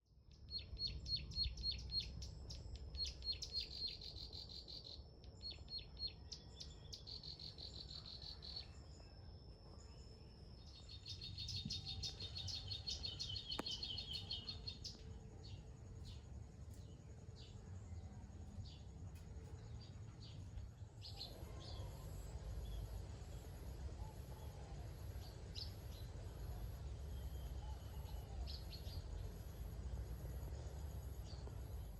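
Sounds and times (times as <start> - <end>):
songbirds chirping and trilling: 0.0 - 31.9.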